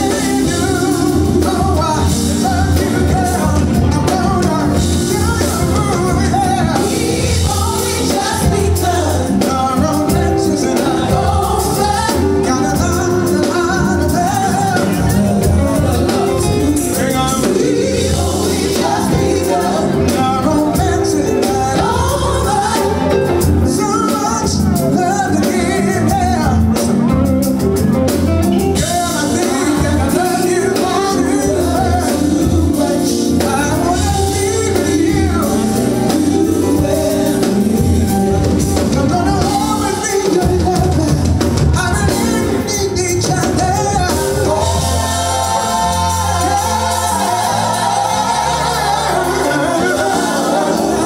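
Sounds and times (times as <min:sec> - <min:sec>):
man singing: 0:00.0 - 0:27.7, 0:28.5 - 0:51.0
bass guitar: 0:00.0 - 0:51.0
drum kit: 0:00.0 - 0:51.0
keyboards: 0:00.0 - 0:51.0.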